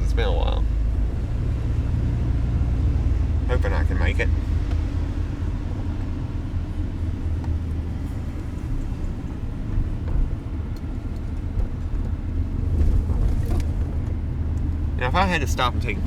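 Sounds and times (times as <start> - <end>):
car engine rumble: 0.0 - 16.0
road noise: 0.0 - 16.0.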